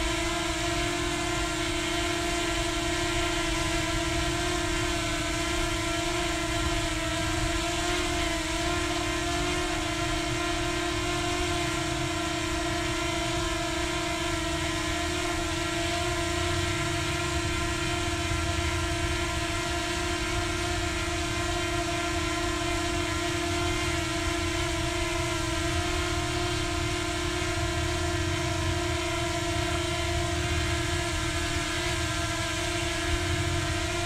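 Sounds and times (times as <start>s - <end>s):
drone propellers humming: 0.0s - 34.0s.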